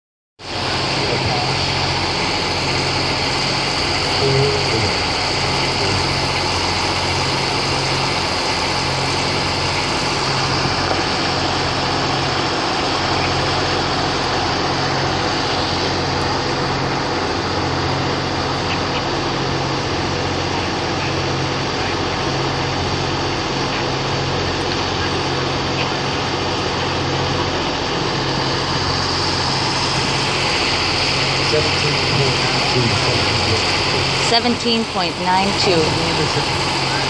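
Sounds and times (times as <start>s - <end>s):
engine droning: 0.4s - 37.0s.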